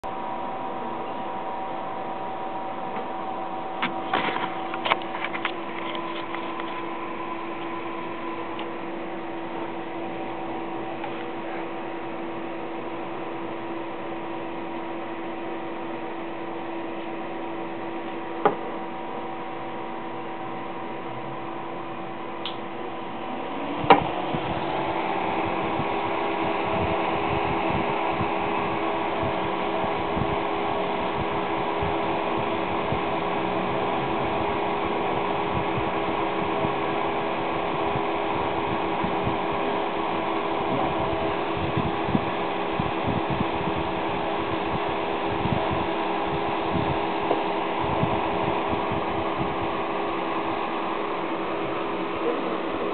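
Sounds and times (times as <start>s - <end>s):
electric fans humming: 0.0s - 52.9s.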